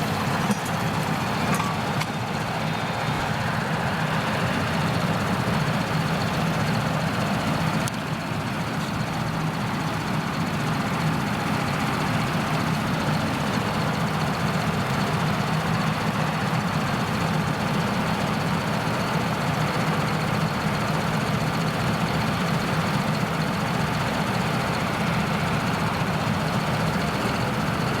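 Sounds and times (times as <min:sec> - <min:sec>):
diesel engine drone: 0:00.0 - 0:28.0.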